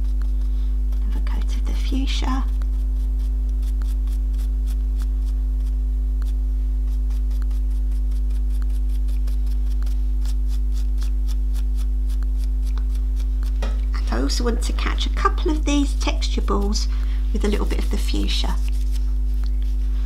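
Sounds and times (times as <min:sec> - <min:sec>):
paintbrush scratching: 0:00.0 - 0:20.0
steady low hum: 0:00.0 - 0:20.0.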